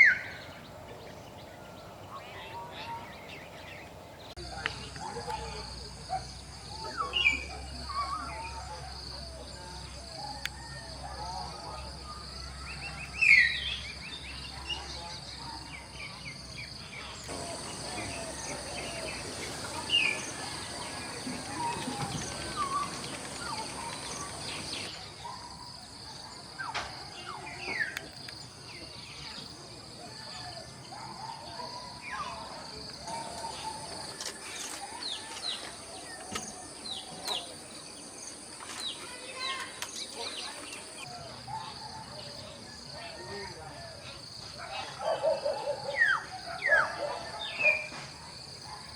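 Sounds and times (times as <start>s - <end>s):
insects droning: 0.0s - 48.9s
wild birds chirping: 0.0s - 48.9s.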